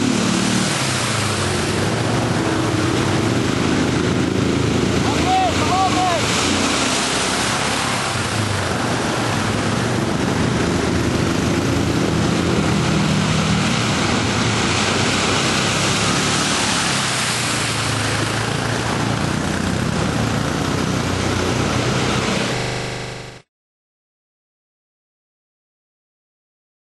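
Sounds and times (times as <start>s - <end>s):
water splashing: 0.0s - 23.2s
quad bike engines droning: 0.0s - 23.4s.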